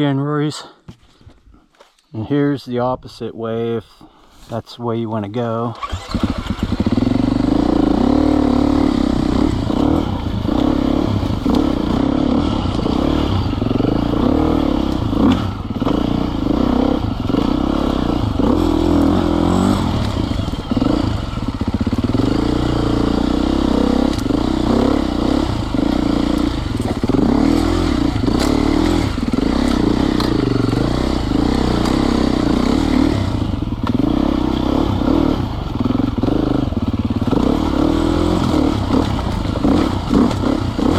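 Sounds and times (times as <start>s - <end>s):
dirt bike engine revving: 5.8s - 40.9s.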